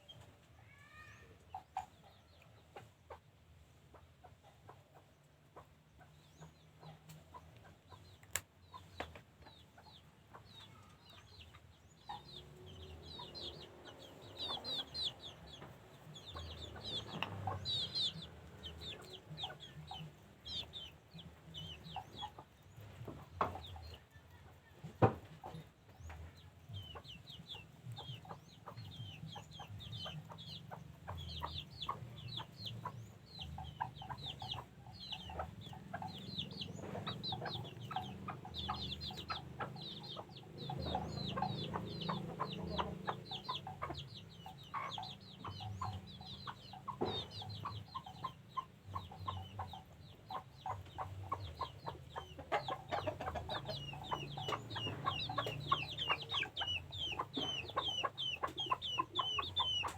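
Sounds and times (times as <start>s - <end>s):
chickens clucking and calling: 0.0s - 59.9s.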